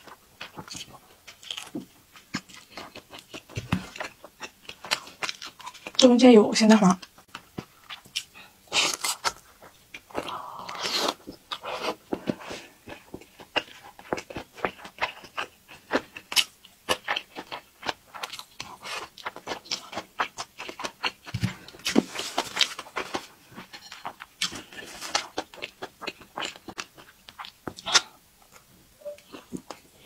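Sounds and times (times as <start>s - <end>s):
chewing and wet mouth sounds: 0.0s - 6.1s, 7.0s - 30.0s.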